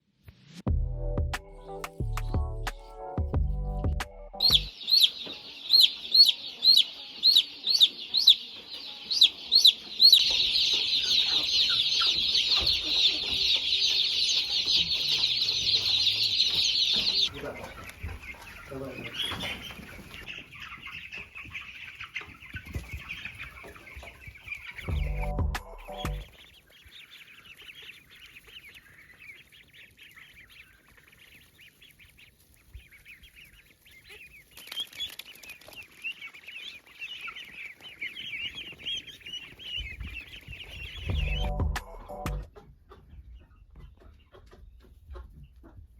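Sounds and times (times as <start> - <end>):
chickens calling: 4.4 - 45.9.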